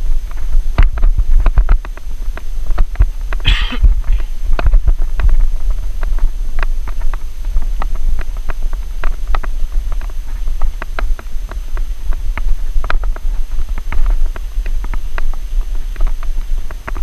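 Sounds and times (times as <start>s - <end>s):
bicycle rattling over dirt trail: 0.0s - 17.0s
wind on microphone: 0.0s - 17.0s.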